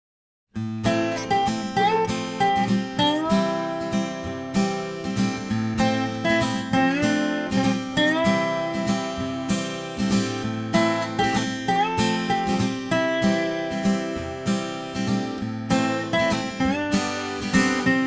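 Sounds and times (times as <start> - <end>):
acoustic guitar music: 0.6 - 18.0.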